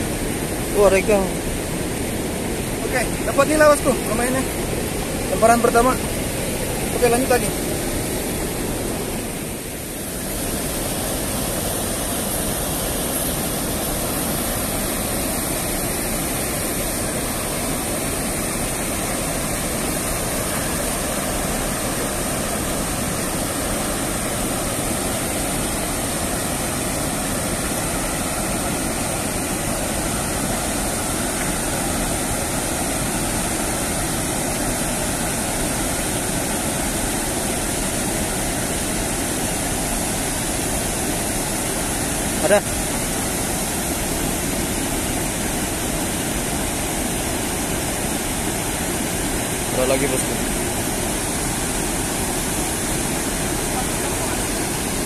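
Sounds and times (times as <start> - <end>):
water rushing over weir: 0.0 - 55.0.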